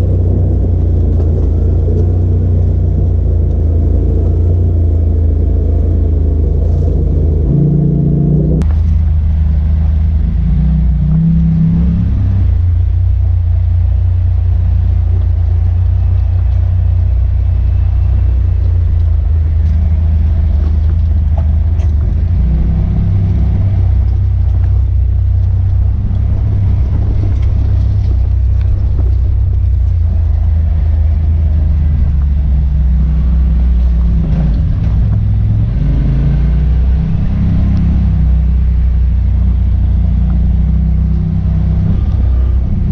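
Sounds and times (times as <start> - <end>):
utility vehicle engine droning: 0.0 - 42.9.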